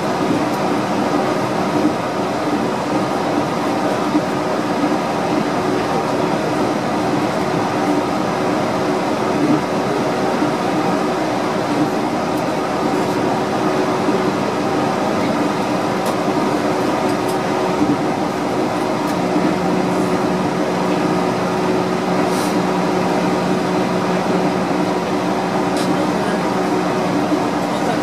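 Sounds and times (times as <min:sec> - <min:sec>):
train rolling rumble and hiss: 0:00.0 - 0:28.0.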